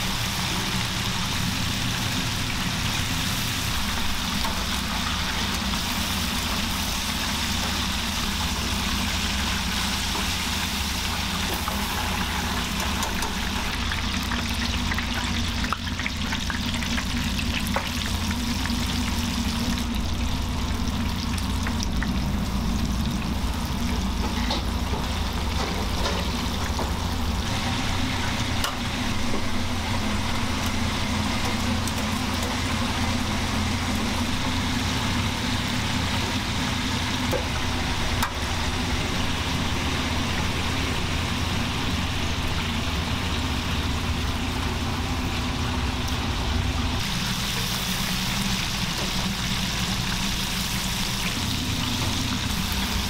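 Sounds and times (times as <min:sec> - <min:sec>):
low hum of kitchen machinery: 0:00.0 - 0:53.0
oil sizzling and bubbling: 0:00.0 - 0:53.0.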